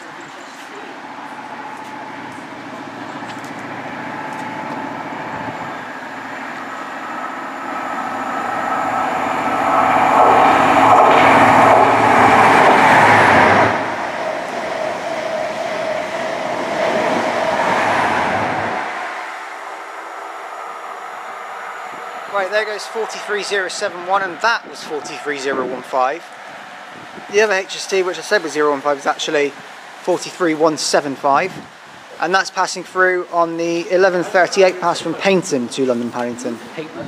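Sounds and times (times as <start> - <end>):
diesel train engine passing: 0.0 - 37.0.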